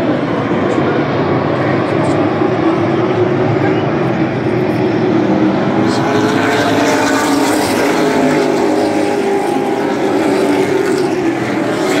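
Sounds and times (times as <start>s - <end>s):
racing car engines roaring: 0.0s - 12.0s.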